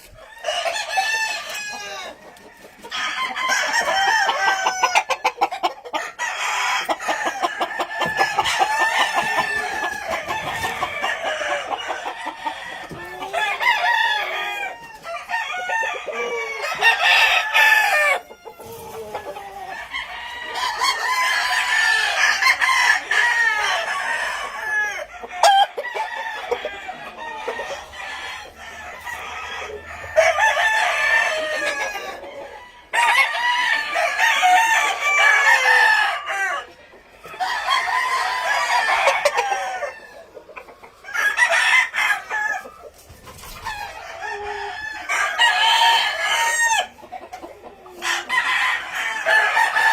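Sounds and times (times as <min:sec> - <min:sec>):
chickens clucking: 0:00.0 - 0:49.9
roosters crowing: 0:00.0 - 0:49.9.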